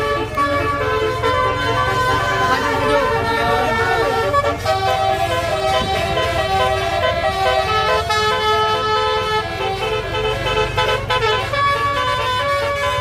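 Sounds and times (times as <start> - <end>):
bus air horn playing a tune: 0.0 - 13.0.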